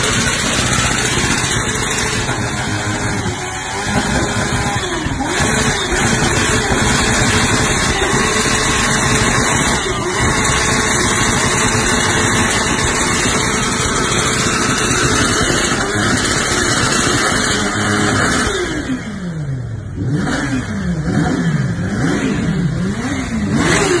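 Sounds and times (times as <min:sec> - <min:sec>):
motorcycle engine revving hard: 0:00.0 - 0:24.0.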